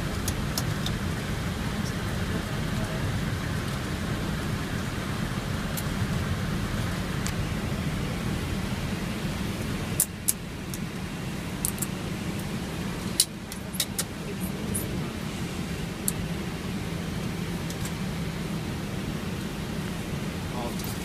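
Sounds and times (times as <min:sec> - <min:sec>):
low cockpit rumble: 0:00.0 - 0:21.0.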